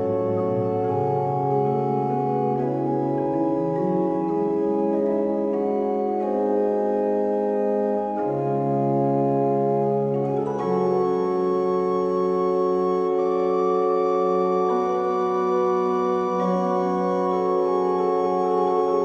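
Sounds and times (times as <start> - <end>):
organ chords: 0.0 - 19.0.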